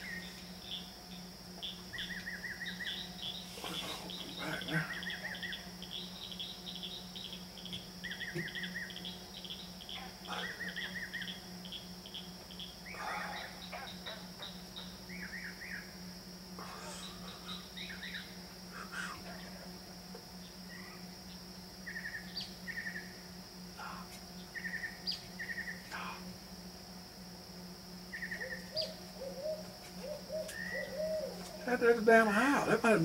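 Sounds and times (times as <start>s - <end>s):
bird singing warbling trill: 0.0s - 16.1s, 16.8s - 18.4s, 20.4s - 26.2s, 28.1s - 33.0s
insects chirping: 0.0s - 33.0s.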